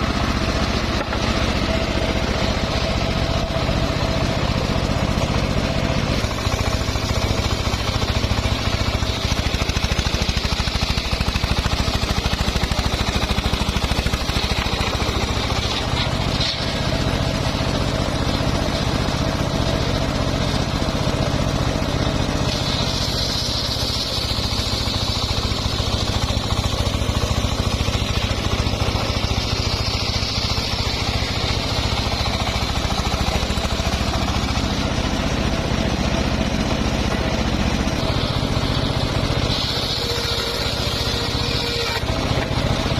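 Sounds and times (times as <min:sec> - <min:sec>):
saw blade whining: 0:00.0 - 0:42.9
sawmill engine running: 0:00.0 - 0:42.9.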